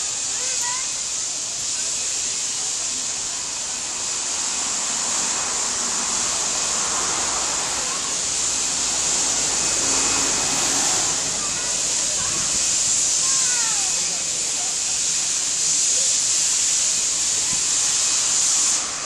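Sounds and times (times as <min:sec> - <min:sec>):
steam hissing from locomotive: 0:00.0 - 0:19.0.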